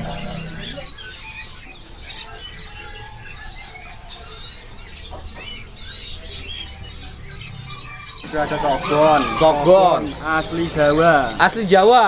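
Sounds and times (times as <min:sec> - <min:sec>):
songbirds chirping and twittering: 0:00.0 - 0:12.0.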